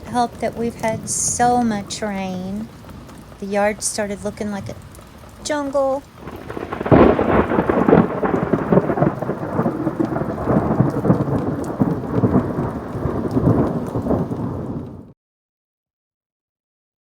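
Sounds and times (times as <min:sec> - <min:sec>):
rain falling: 0:00.0 - 0:15.1
thunder rumbling: 0:00.0 - 0:15.1.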